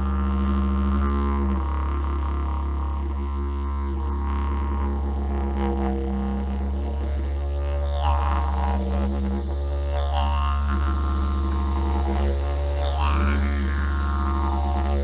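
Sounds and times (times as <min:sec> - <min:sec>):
didgeridoo drone: 0:00.0 - 0:15.0.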